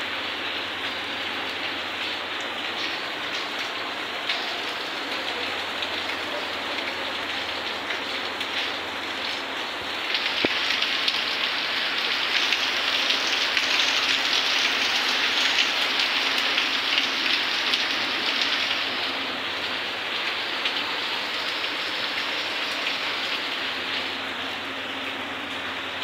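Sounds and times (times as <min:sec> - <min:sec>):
heavy rain on pavement and leaves: 0:00.0 - 0:26.0.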